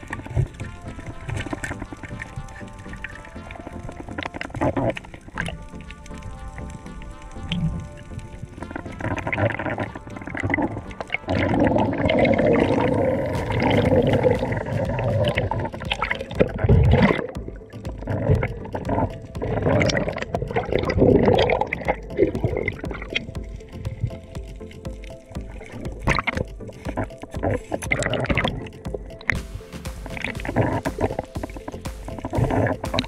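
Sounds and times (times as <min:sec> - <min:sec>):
underwater gurgling and rushing: 0:00.0 - 0:33.0.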